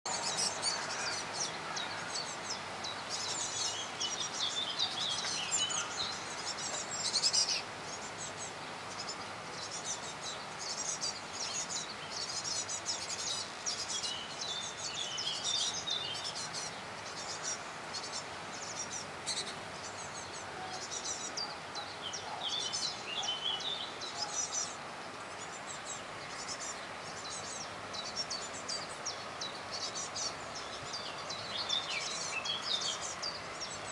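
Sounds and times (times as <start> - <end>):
bird chirping high calls: 0.1 - 33.9.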